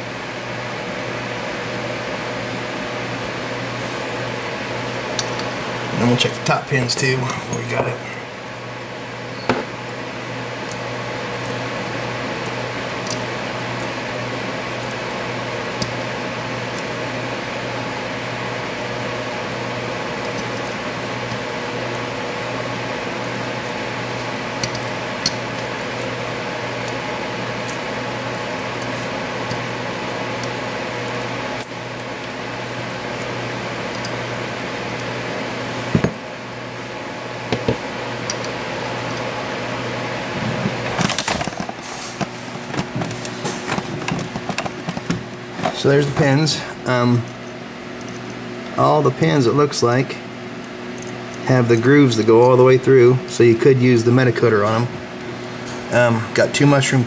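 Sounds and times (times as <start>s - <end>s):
machine hum: 0.0s - 57.0s.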